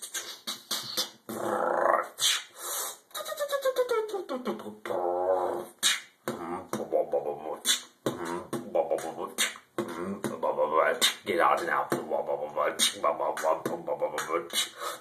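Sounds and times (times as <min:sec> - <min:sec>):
vocal beatboxing: 0:00.0 - 0:15.0.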